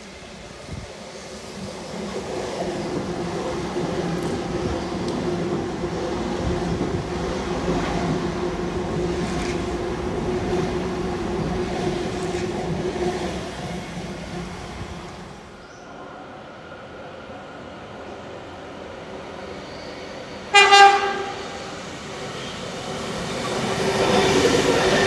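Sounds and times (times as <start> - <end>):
train wheels rumbling on rail: 0.0 - 15.7, 17.5 - 25.0.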